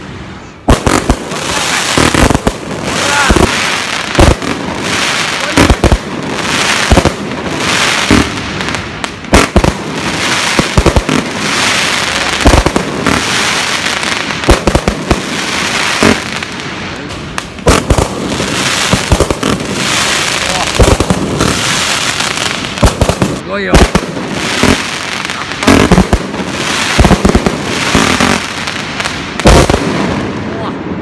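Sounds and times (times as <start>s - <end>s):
fireworks bangs: 0.0s - 31.0s
hissing crackle of burning stars: 0.0s - 31.0s.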